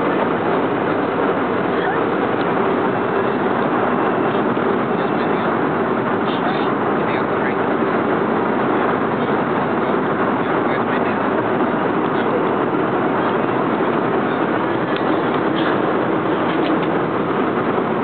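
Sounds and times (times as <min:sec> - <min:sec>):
aircraft cabin noise: 0:00.0 - 0:18.0.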